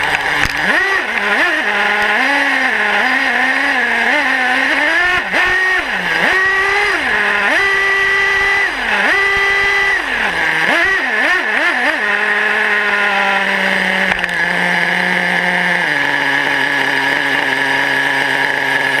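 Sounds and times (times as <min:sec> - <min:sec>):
small nitro engine revving: 0:00.0 - 0:19.0.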